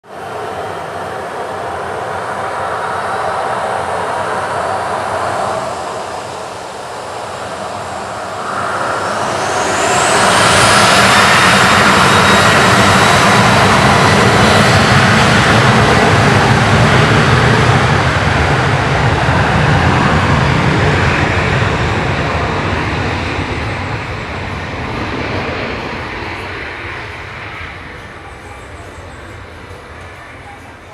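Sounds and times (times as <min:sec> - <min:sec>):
jet engines roaring at takeoff: 0:00.0 - 0:30.9
rising engine whine: 0:00.2 - 0:30.9.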